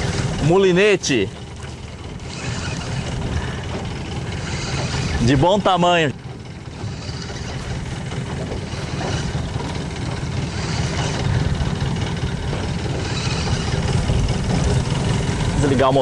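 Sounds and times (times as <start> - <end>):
outboard motor humming: 0.0 - 16.0
water noise: 0.0 - 16.0.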